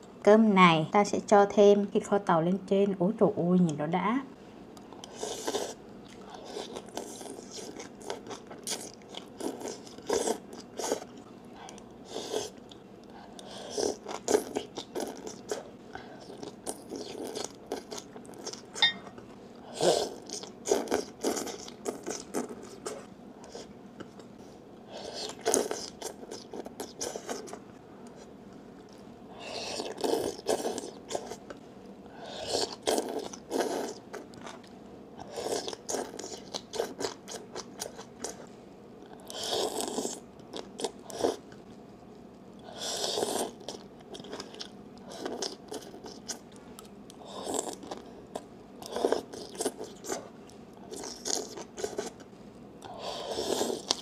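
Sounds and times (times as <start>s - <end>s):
crunching and chewing vegetables: 4.8s - 54.0s.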